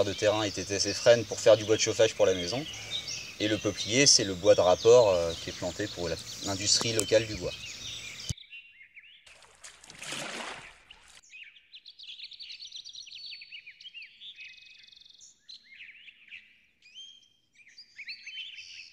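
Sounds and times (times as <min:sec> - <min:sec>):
small birds chirping: 0:00.0 - 0:09.5, 0:10.4 - 0:18.9.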